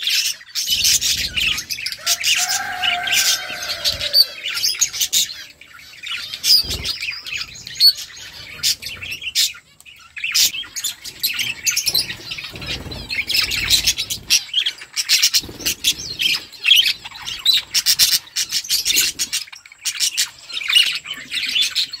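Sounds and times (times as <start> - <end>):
budgerigars chirping and chattering: 0.0 - 22.0.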